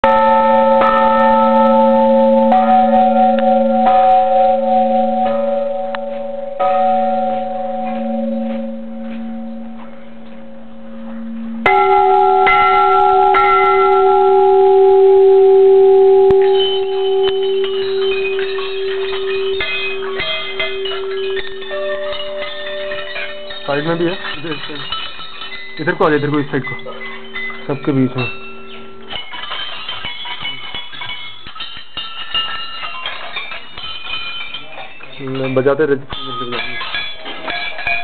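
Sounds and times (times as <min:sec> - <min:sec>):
different-pitched bell struck: 0:00.0 - 0:38.0
large bell ringing: 0:00.0 - 0:38.0
small bells ringing: 0:00.0 - 0:38.0.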